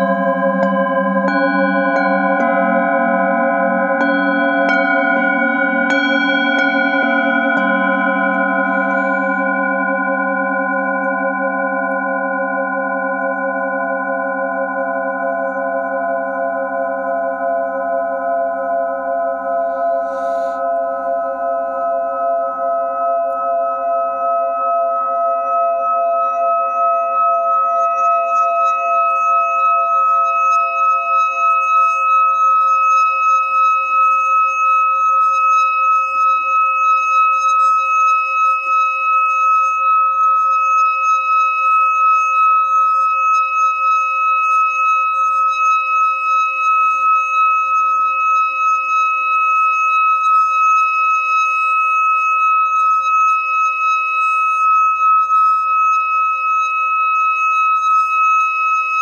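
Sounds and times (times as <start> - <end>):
singing bowl ringing: 0.0 - 59.0.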